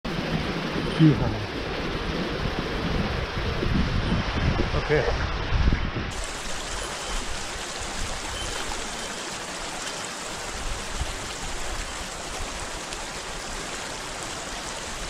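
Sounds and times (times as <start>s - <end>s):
creek flowing over stones: 0.1s - 5.5s, 6.1s - 15.0s.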